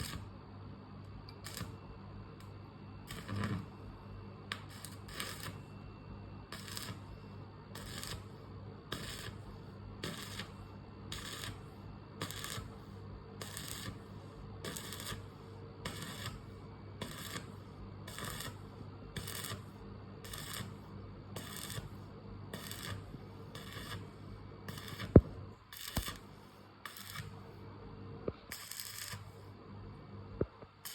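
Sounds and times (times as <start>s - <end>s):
arc welding crackle: 0.0s - 0.4s, 1.2s - 5.8s, 6.4s - 27.5s, 28.3s - 29.4s
steady electrical hum: 0.0s - 30.9s.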